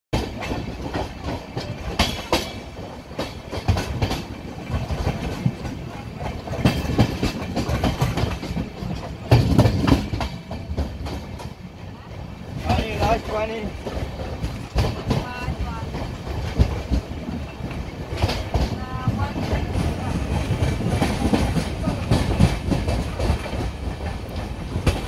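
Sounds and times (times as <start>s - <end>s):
wheel clatter and clanks: 0.2s - 11.8s, 12.5s - 25.0s
train wheels rumbling: 0.2s - 25.0s.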